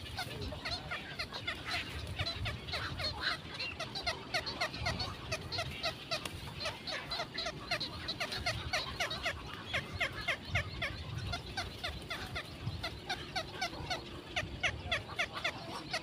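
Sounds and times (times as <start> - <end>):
birds calling in falling notes: 0.0 - 16.0.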